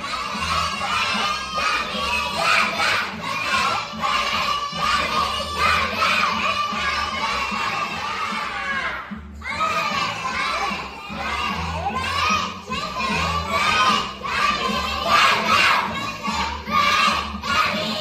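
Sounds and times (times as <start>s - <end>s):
children shouting and cheering: 0.0s - 18.0s.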